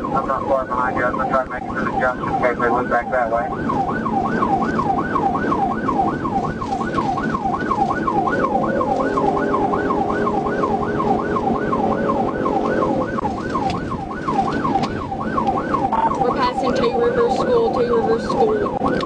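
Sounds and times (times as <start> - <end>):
police siren yelping: 0.0 - 19.0
road and engine noise: 0.0 - 19.0.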